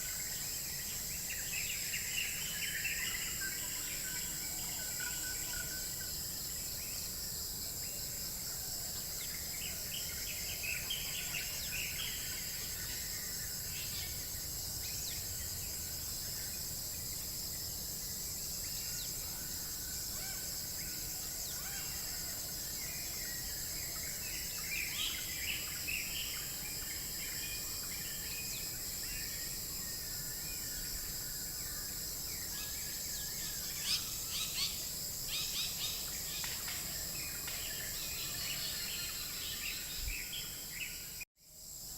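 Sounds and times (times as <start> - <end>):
high insect drone: 0.0 - 41.9.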